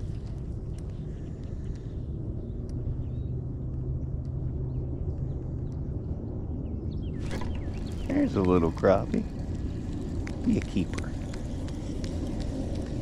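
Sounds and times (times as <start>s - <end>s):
faint hum: 0.0s - 13.0s
low rumble: 0.0s - 13.0s.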